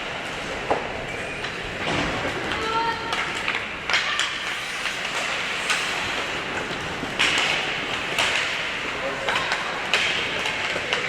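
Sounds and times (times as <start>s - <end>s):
rink crowd hubbub: 0.0s - 11.0s
hockey sticks and puck clacking: 0.1s - 11.0s
skates scraping ice: 0.1s - 11.0s.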